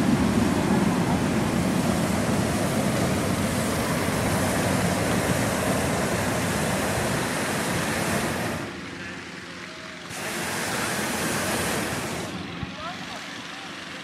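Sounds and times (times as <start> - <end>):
propane burner roaring: 0.0 - 14.0.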